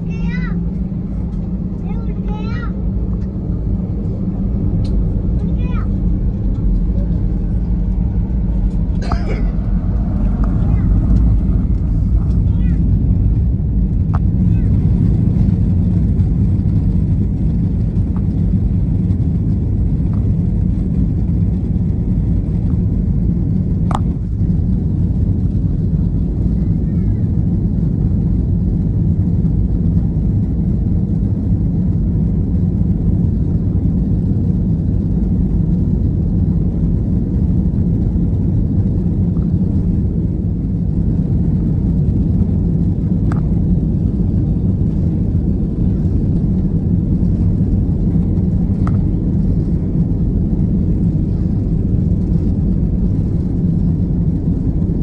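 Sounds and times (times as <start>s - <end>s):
aircraft engine and runway rumble: 0.0s - 55.0s.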